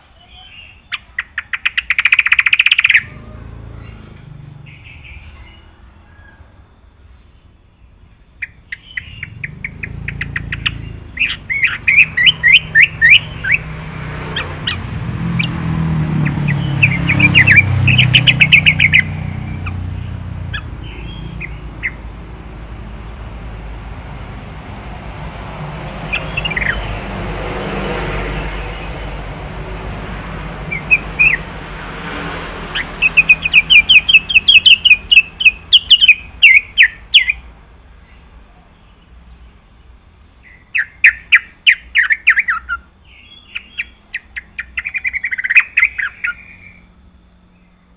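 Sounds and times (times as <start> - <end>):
bird chirping rapidly: 0.1 - 6.0, 7.8 - 47.9.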